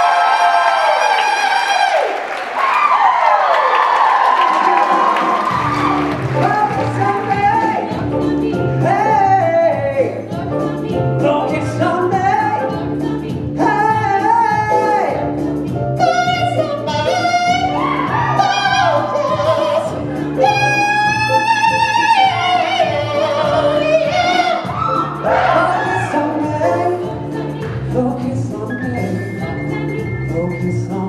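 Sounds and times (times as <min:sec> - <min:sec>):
backing music with bass line: 0:05.0 - 0:31.0
person singing with vibrato: 0:05.4 - 0:31.0.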